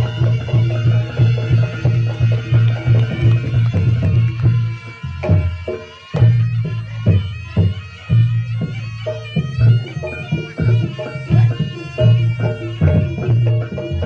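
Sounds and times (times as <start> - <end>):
drum strokes: 0.0 - 14.0
shawm playing reedy melody: 0.0 - 14.0.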